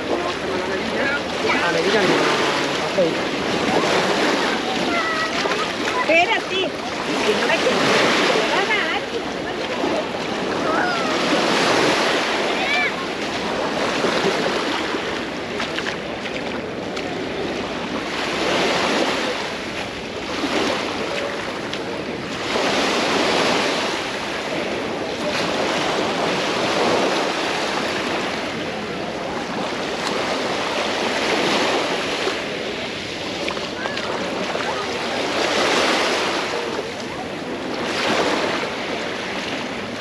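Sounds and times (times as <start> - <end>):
small waves breaking on beach: 0.0 - 40.0.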